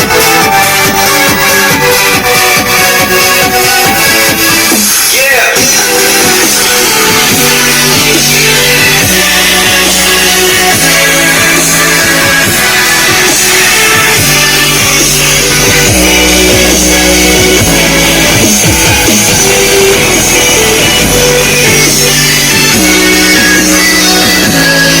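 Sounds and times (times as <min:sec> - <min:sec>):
music with strong bass line: 0:00.0 - 0:25.0.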